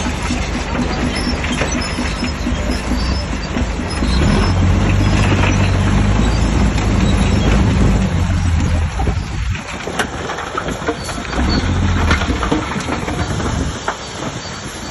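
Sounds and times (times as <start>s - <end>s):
bulldozer diesel engine running: 0.0s - 14.9s.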